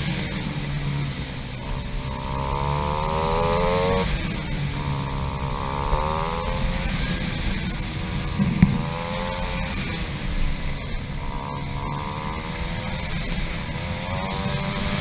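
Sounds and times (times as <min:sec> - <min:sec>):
dirt bike engine revving: 0:00.0 - 0:15.0
steady rushing hiss: 0:00.0 - 0:15.0.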